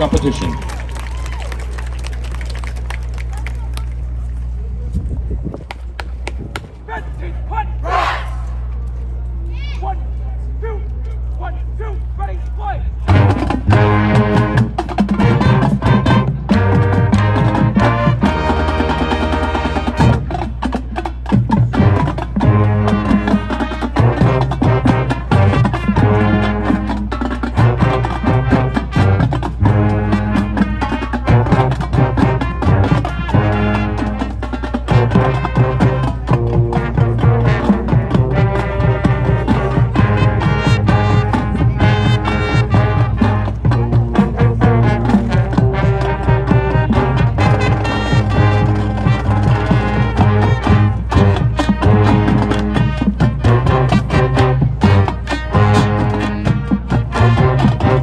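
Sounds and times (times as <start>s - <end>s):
drumline percussion strikes: 0.0s - 4.0s, 13.0s - 58.0s
marching band playing: 0.0s - 4.6s, 12.8s - 58.0s
held brass chords: 10.2s - 58.0s.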